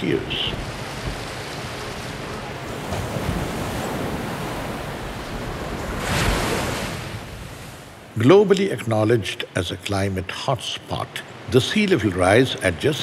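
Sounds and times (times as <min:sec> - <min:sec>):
waves and rushing water: 0:00.0 - 0:13.0.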